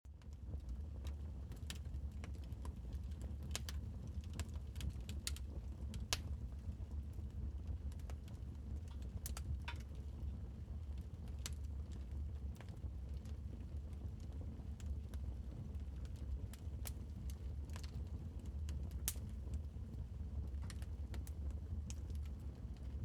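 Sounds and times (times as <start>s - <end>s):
wood fire crackling: 0.2s - 23.0s.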